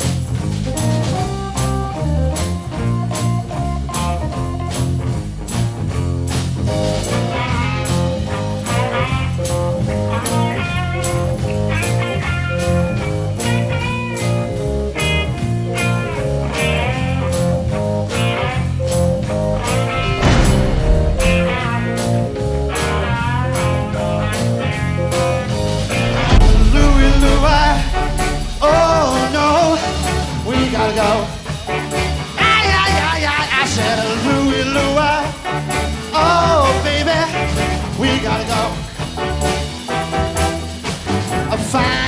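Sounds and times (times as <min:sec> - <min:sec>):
electric guitar: 0:00.0 - 0:42.0
live soul band playing: 0:00.0 - 0:42.0.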